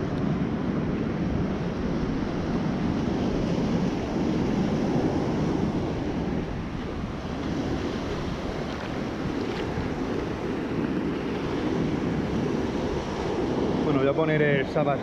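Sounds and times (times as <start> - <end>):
wind buffeting microphone: 0.0 - 15.0
surf breaking on beach: 1.4 - 15.0.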